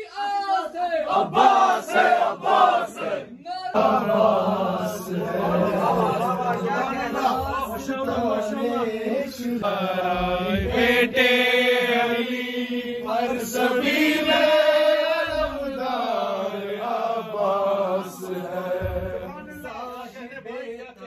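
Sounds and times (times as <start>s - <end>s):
men chanting together: 0.2s - 21.0s.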